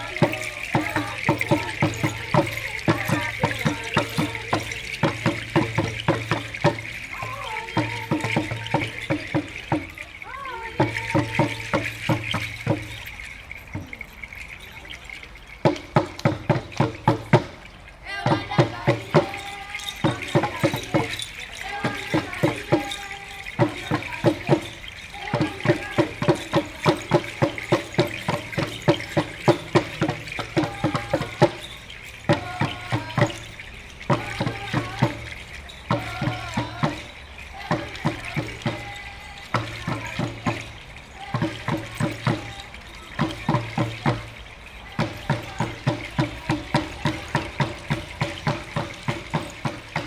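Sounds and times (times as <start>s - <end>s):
hand drums beating: 0.0s - 50.0s.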